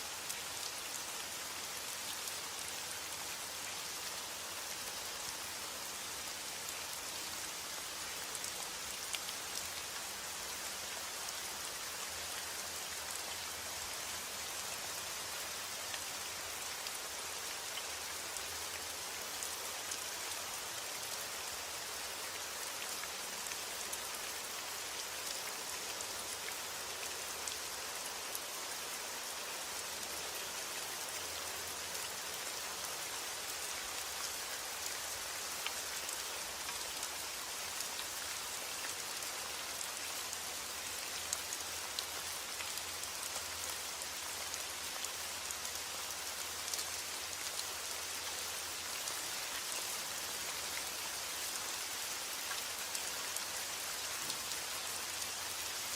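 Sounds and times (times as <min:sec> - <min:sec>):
rain on a roof: 0:00.0 - 0:55.9.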